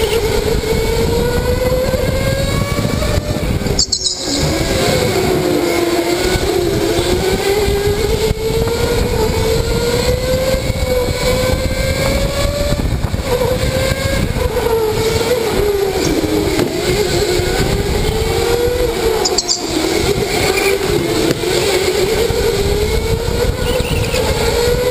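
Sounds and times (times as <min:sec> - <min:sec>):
electric go-kart motor whining: 0:00.0 - 0:24.9
steady rushing noise: 0:02.5 - 0:23.6.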